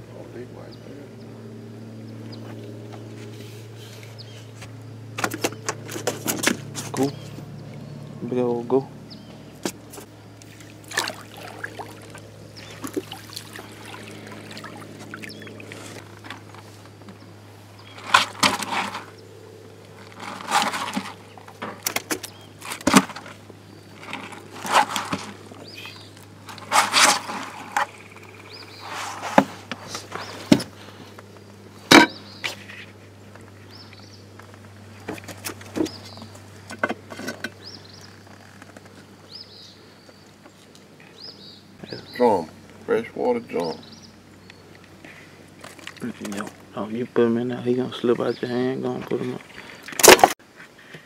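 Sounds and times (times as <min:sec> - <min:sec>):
steady low hum: 0:00.0 - 0:50.3.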